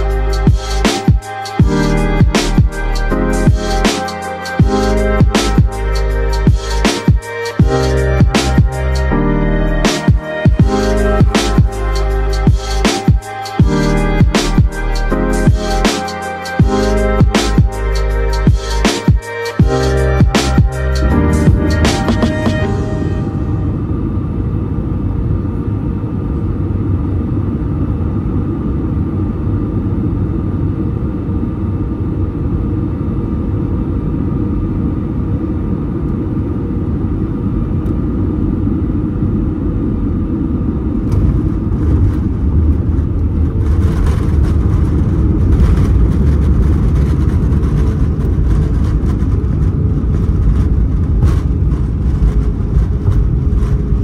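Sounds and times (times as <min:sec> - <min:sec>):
airplane cabin engine hum: 0:00.0 - 0:54.0.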